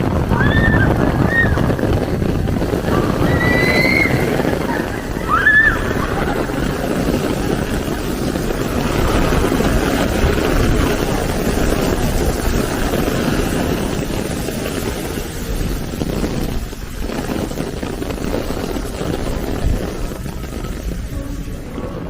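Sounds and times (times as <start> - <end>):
storm wind roaring: 0.0 - 22.0.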